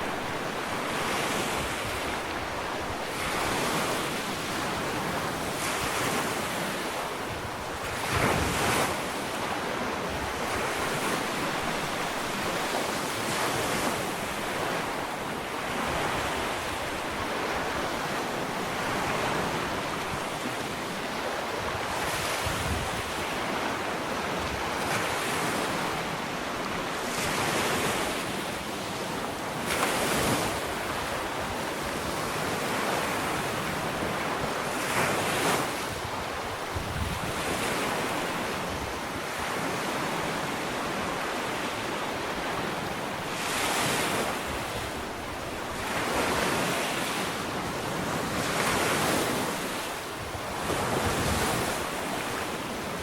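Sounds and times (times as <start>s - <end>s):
wind on microphone: 0.0s - 28.3s, 29.0s - 42.6s, 43.3s - 53.0s
ocean waves breaking on beach: 0.0s - 53.0s.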